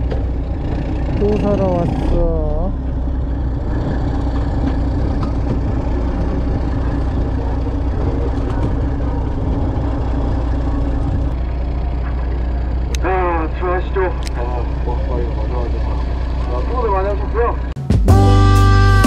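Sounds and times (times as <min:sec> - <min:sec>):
boat engine droning: 0:00.0 - 0:18.9.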